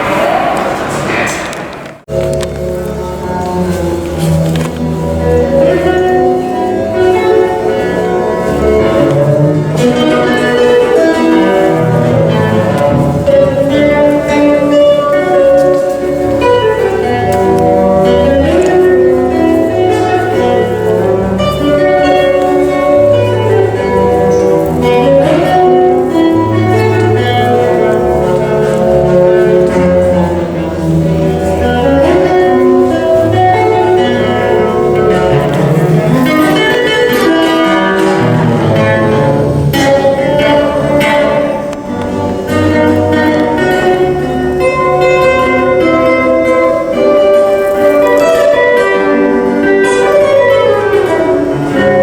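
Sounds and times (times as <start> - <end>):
stringed instrument melody: 1.9 - 52.0.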